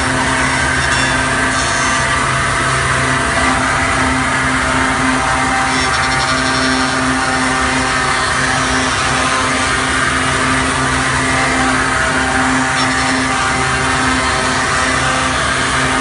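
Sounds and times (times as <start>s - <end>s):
cutter milling wood: 0.0s - 16.0s
machine hum: 0.0s - 16.0s.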